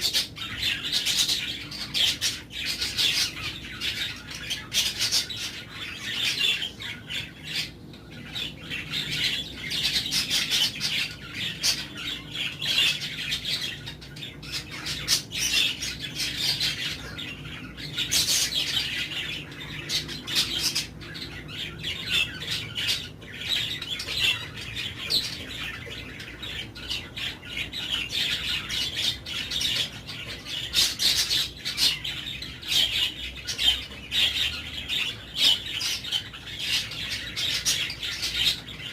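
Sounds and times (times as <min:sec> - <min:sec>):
caged birds chattering and squawking: 0:00.0 - 0:38.9.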